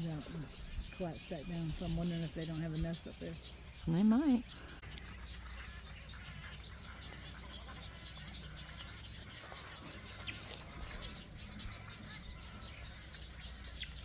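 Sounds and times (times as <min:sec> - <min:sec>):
wading birds squawking: 0:00.0 - 0:14.0.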